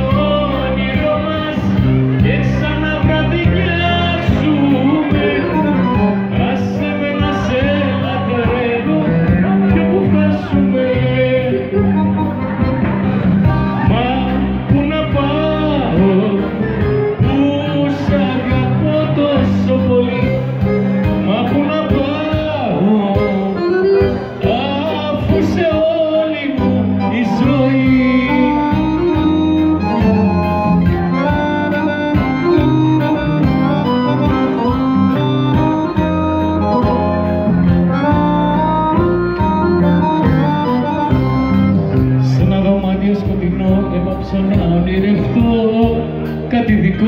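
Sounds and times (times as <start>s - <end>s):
man singing: 0.0s - 12.8s, 13.4s - 47.0s.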